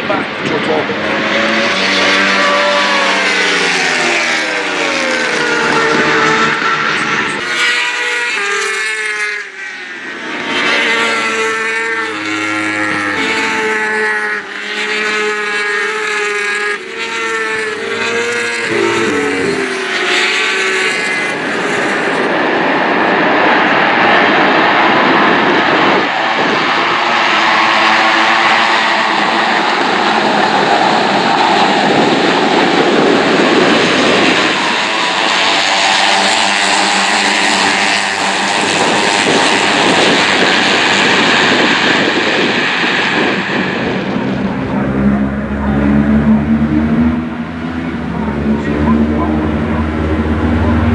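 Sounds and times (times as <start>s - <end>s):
racing motorcycle engines: 0.0s - 50.9s.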